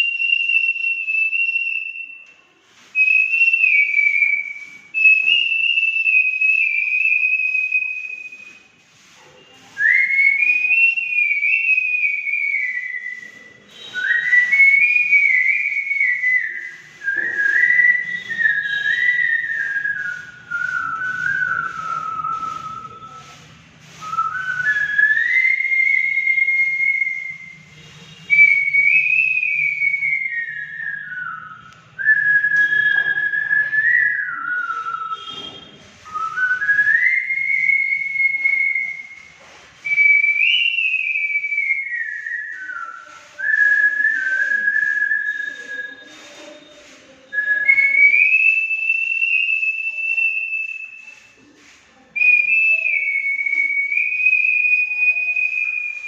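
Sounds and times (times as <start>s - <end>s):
man whistling a melody: 0.0s - 2.3s, 3.0s - 8.6s, 9.8s - 23.2s, 24.0s - 46.1s, 47.3s - 51.4s, 52.2s - 56.0s.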